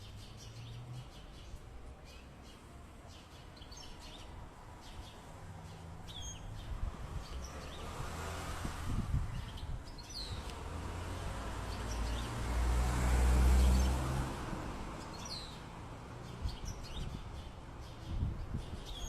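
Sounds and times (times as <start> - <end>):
small birds chirping: 0.0 - 12.6, 13.4 - 19.0.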